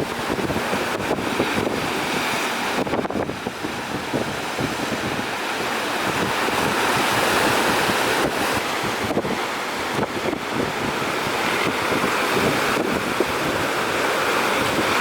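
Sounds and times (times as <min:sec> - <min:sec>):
rough sea waves: 0:00.0 - 0:15.0
wind buffeting microphone: 0:00.0 - 0:15.0.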